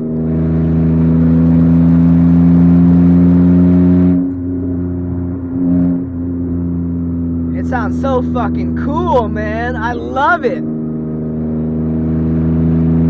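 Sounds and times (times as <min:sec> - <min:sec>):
car engine with exhaust leak: 0:00.0 - 0:13.0.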